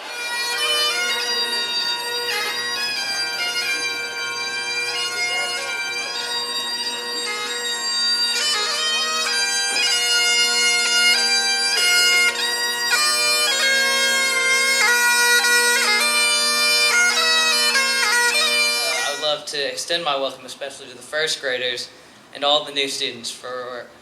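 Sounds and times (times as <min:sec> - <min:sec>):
bagpipe playing a tune: 0:00.0 - 0:19.5.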